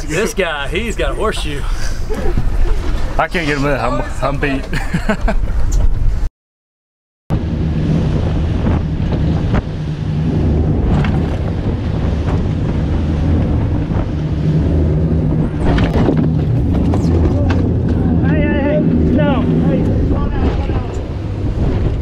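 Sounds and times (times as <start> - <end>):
boat engine humming: 0.0 - 6.2, 7.4 - 22.0
wind on microphone: 0.0 - 6.3, 7.3 - 22.0.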